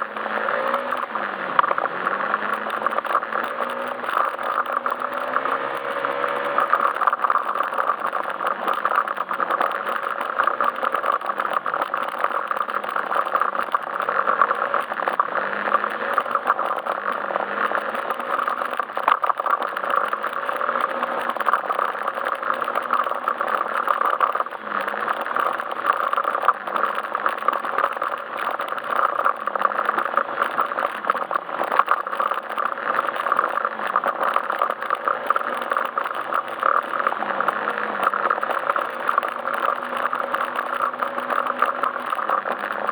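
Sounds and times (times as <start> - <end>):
rattling and road noise: 0.0 - 42.9
scooter engine running: 0.0 - 42.9.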